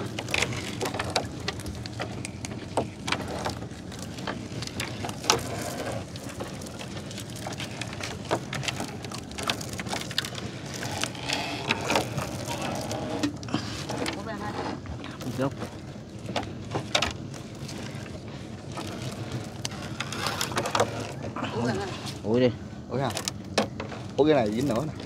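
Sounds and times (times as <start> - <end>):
water dripping and pattering: 0.0 - 25.0
wet net hauled into boat: 0.0 - 25.0.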